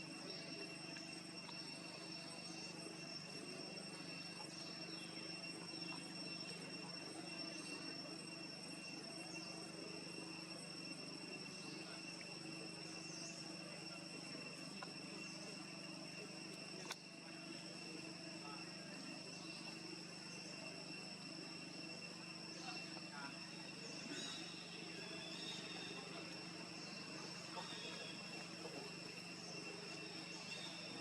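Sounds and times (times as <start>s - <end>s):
insect chorus droning: 0.0s - 31.0s.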